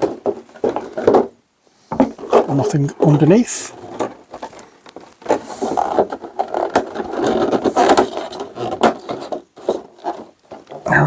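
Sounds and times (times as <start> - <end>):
plastic and cardboard scraping: 0.0 - 11.0.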